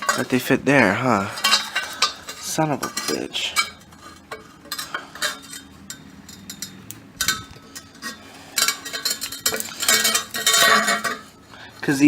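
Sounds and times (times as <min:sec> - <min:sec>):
metal parts clinking and rattling: 0:00.0 - 0:12.0.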